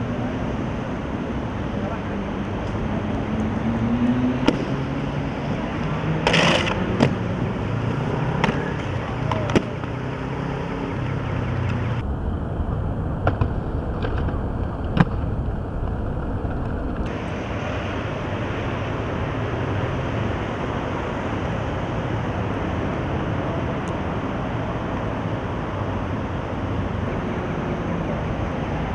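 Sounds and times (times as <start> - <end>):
traffic noise: 0.0 - 28.9.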